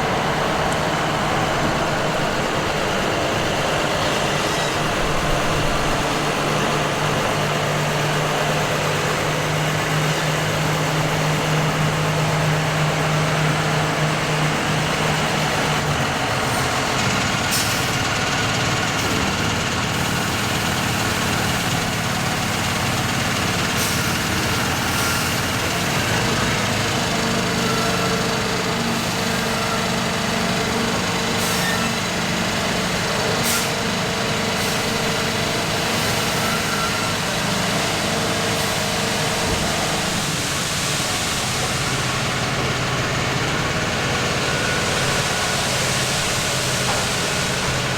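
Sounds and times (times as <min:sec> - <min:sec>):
combine harvester droning: 0:00.0 - 0:47.9.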